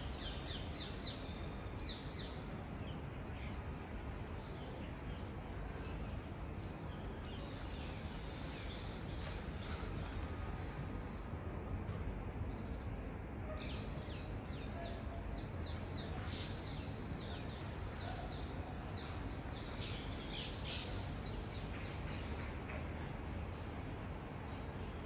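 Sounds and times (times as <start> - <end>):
distant city traffic rumble: 0.0 - 25.0.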